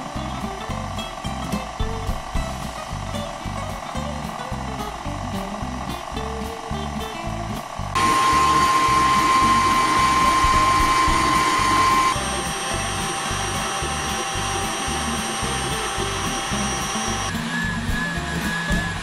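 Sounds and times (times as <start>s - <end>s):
background music with steady beat: 0.0s - 19.0s
stand mixer motor whining: 0.0s - 19.0s.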